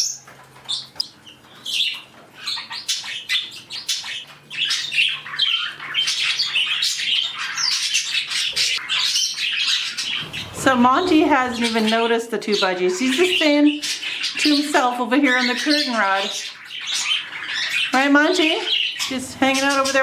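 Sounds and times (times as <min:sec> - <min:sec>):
small cage birds chattering: 0:00.0 - 0:20.0.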